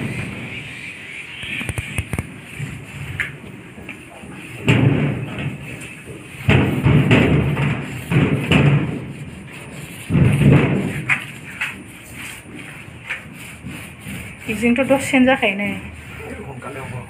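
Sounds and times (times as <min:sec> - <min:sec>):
paint roller on metal door: 0:00.0 - 0:17.0.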